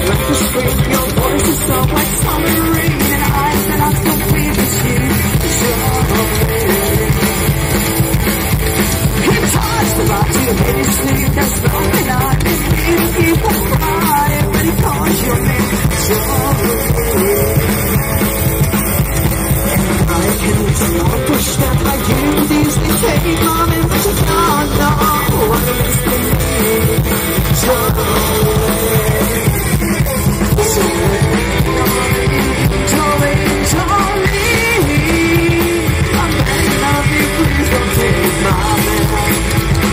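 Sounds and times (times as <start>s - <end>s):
drum kit: 0.0s - 39.9s
electric guitar: 0.0s - 39.9s
rock and roll band playing: 0.0s - 39.9s
upright bass: 0.0s - 39.9s.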